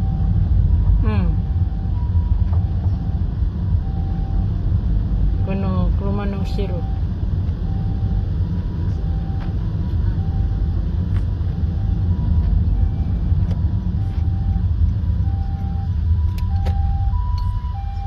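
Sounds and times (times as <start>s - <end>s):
distant two-tone siren: 0.0s - 18.0s
road and engine rumble inside car: 0.0s - 18.0s.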